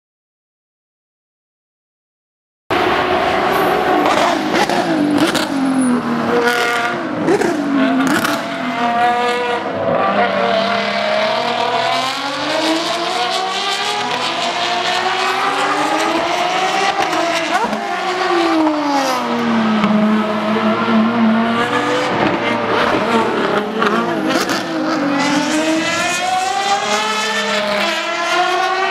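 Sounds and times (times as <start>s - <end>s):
race car engines passing: 2.7s - 28.9s.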